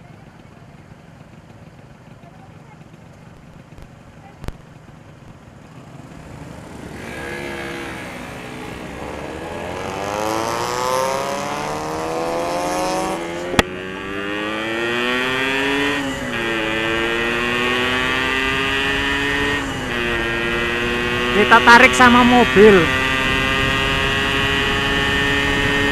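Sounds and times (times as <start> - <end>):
motorcycle engine accelerating: 0.0 - 25.9.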